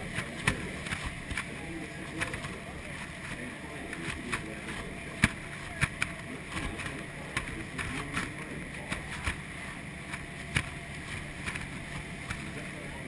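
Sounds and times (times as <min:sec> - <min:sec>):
boat engine: 0:00.0 - 0:13.0.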